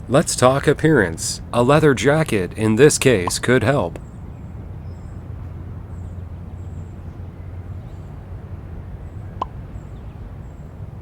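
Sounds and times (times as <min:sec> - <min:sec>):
low town rumble: 0:00.0 - 0:11.0.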